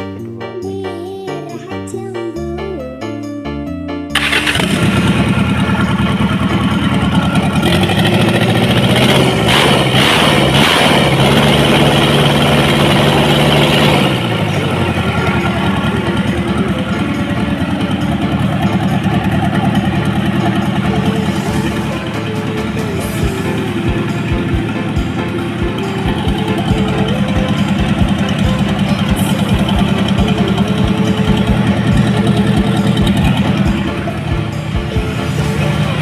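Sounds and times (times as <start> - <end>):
diesel engine starting and running: 2.4 - 36.0.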